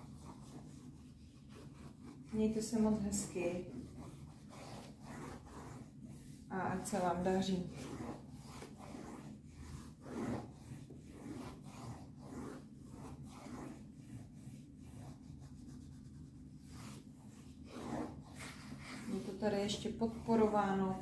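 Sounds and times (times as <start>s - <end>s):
pencil scratching on paper: 0.0s - 21.0s.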